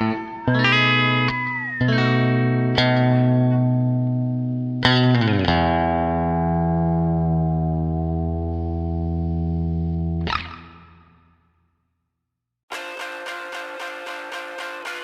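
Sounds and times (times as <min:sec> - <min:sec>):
guitar chords strummed: 0:00.0 - 0:11.2, 0:12.7 - 0:15.0.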